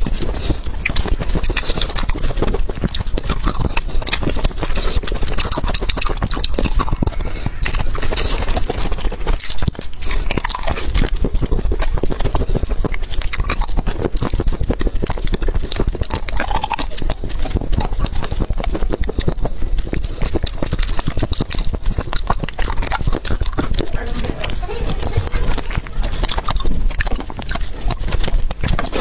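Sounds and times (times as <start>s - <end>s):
close chewing: 0.0s - 29.0s
mouth clicks and smacks: 0.0s - 29.0s.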